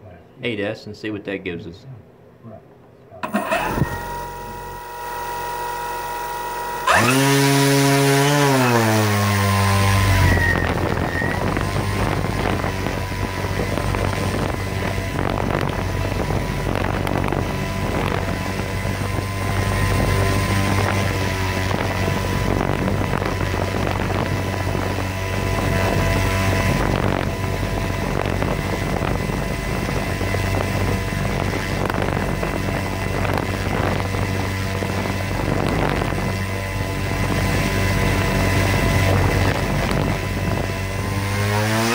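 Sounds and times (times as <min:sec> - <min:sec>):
electric motor spinning propeller: 0:03.2 - 0:41.9.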